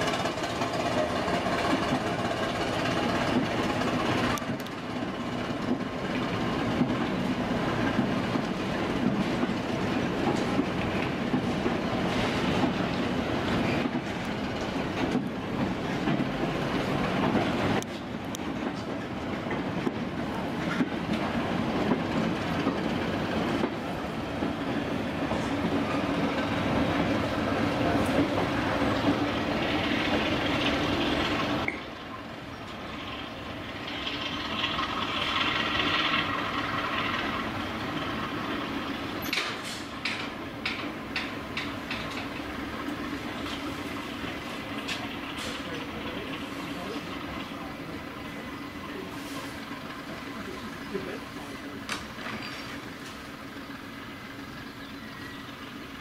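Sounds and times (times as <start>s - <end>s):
train wheels clattering over joints: 0.0s - 56.0s.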